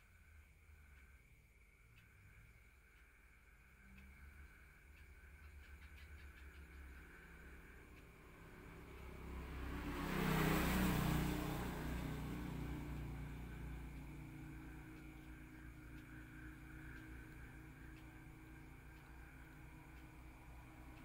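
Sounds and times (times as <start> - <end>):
steady low hum: 0.0 - 21.0
motor vehicle passing: 4.0 - 21.0.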